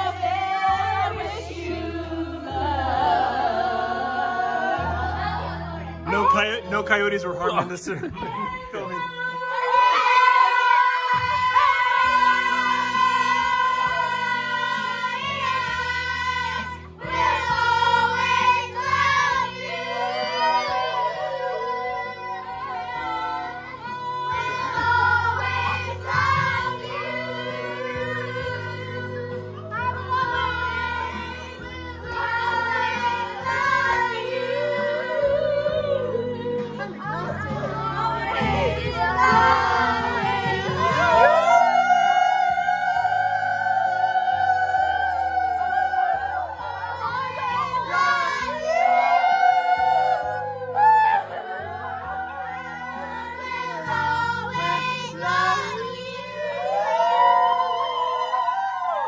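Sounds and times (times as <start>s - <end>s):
children and women singing: 0.0s - 6.5s, 7.9s - 59.0s
backing track: 0.0s - 56.8s.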